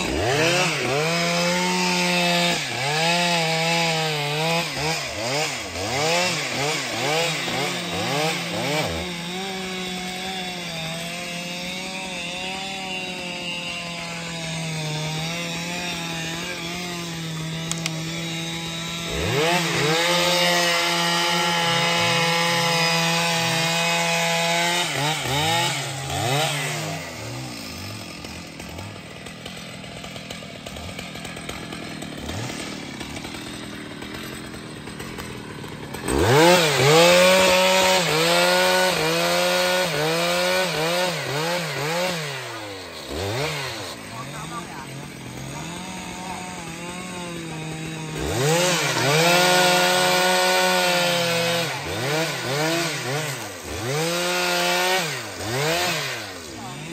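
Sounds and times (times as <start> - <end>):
chainsaw cutting log: 0.0 - 56.9.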